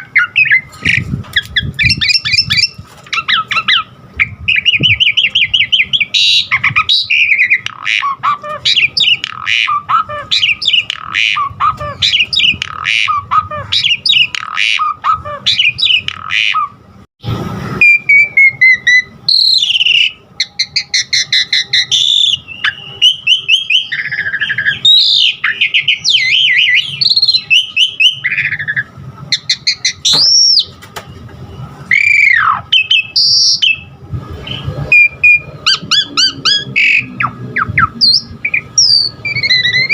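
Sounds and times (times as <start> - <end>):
starling singing: 0.0 - 16.9, 17.8 - 30.8, 31.8 - 39.9.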